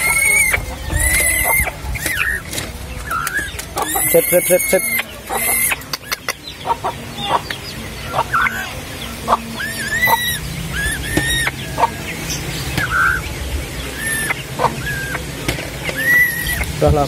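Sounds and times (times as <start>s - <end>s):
dove chicks begging calls: 0.0s - 17.0s
steady low hum: 0.0s - 17.0s.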